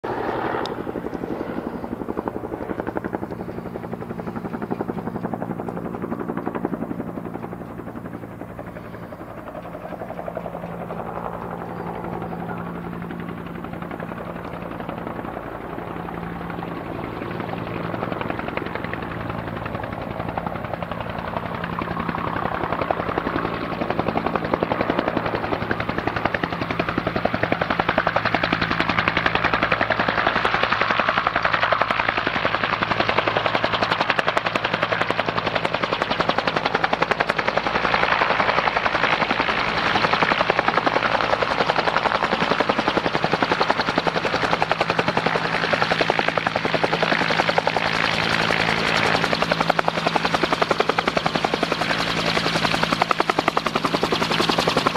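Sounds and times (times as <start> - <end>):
helicopter rotor beating: 0.0 - 54.9
turbine engine hum: 0.0 - 54.9.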